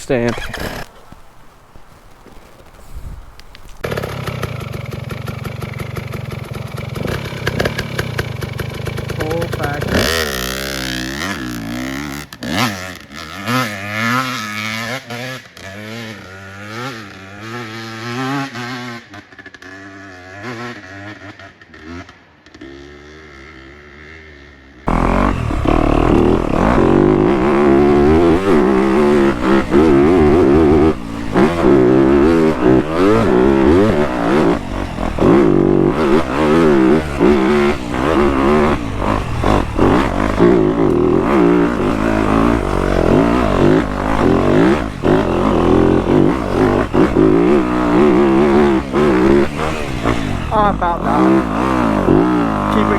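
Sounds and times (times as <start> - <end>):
dirt bike engine revving: 0.0 - 1.0, 3.8 - 52.9.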